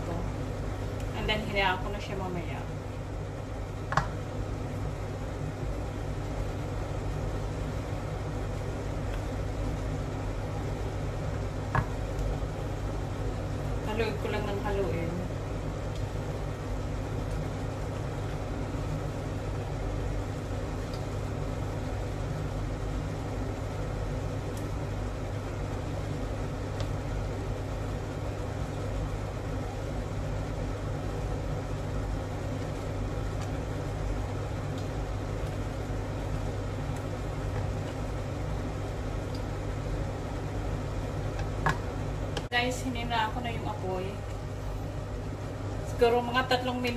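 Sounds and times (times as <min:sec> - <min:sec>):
kitchen appliance humming: 0:00.0 - 0:46.9.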